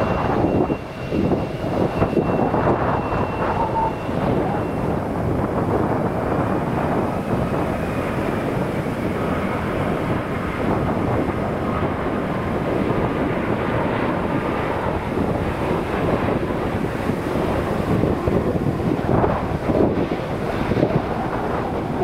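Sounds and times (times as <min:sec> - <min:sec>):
high turbofan whine: 0:00.0 - 0:22.0
jet engine rumble: 0:00.0 - 0:22.0
wind buffeting microphone: 0:00.0 - 0:22.0.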